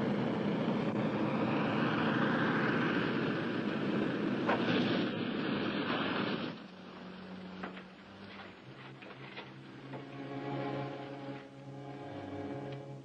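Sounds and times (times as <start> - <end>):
light plane engines running: 0.0 - 13.0.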